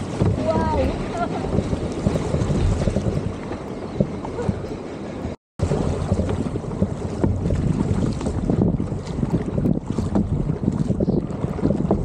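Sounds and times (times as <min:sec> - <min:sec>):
water splashing: 0:00.0 - 0:04.8, 0:05.6 - 0:12.0
paddle strokes against hull: 0:00.0 - 0:12.0
wind buffeting microphone: 0:00.0 - 0:12.0.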